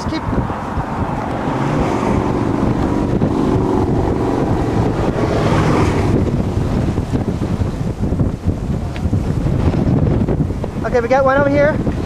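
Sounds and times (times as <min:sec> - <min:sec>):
strong wind on microphone: 0:00.0 - 0:12.0.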